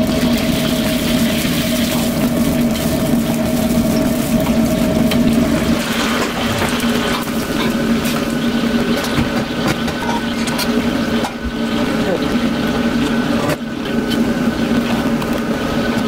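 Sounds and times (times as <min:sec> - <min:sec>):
gas range and extractor fan hum: 0:00.0 - 0:16.0.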